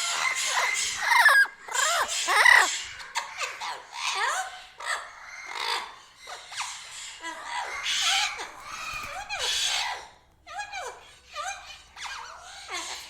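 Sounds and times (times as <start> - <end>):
parrot calling and chattering: 0.0 - 13.0
parrot squawks: 0.0 - 13.0.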